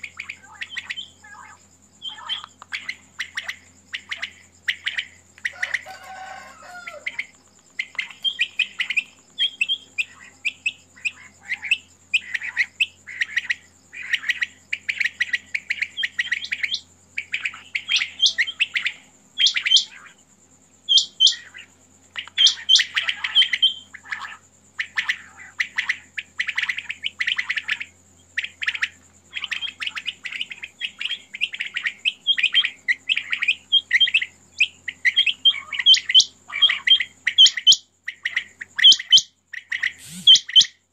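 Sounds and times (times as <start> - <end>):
quails chirping: 0.0 - 20.2, 20.8 - 40.9.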